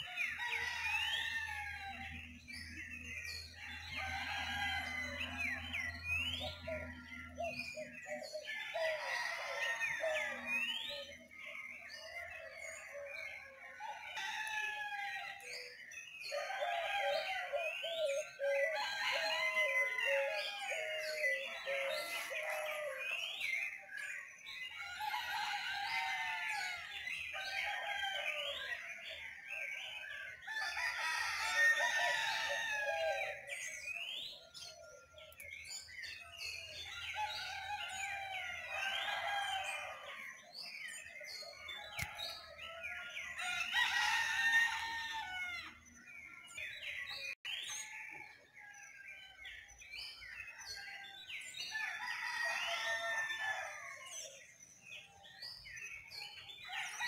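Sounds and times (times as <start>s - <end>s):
roosters crowing: 0.0s - 11.2s, 11.9s - 23.1s, 24.6s - 29.2s, 30.3s - 34.8s, 36.4s - 47.9s, 51.6s - 54.5s, 56.6s - 57.0s
small birds chirping and whistling: 0.0s - 57.0s.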